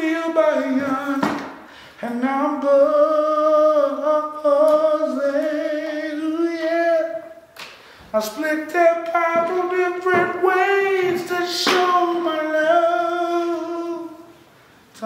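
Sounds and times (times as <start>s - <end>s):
man singing unaccompanied: 0.0s - 7.5s, 8.1s - 14.3s.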